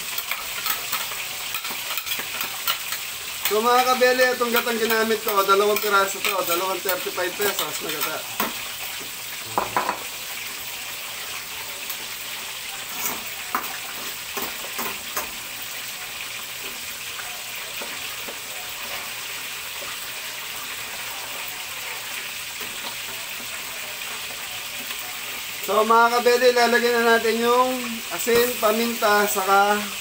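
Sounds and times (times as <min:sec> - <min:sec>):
sizzling in a wok: 0:00.0 - 0:30.0.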